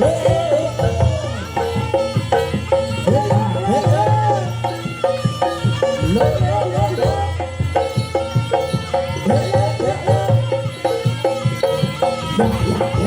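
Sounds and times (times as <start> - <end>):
gamelan drums: 0.0 - 13.0
pitched percussion strokes: 0.0 - 13.0
wavering melody: 0.0 - 13.0.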